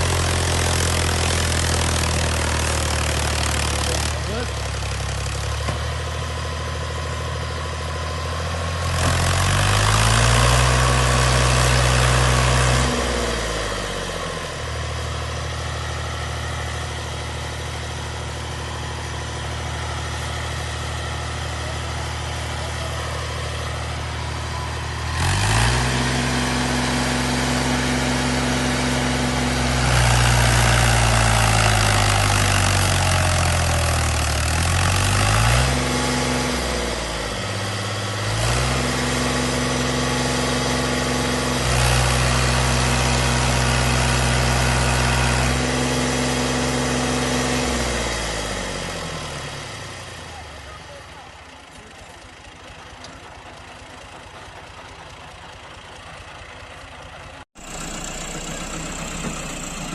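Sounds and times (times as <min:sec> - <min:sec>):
farm machinery engine idling and revving: 0:00.0 - 0:59.9.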